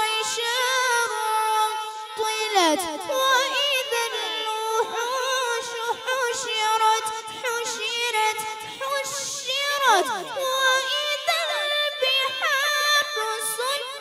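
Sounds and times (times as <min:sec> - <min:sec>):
boy chanting recitation: 0:00.0 - 0:14.0.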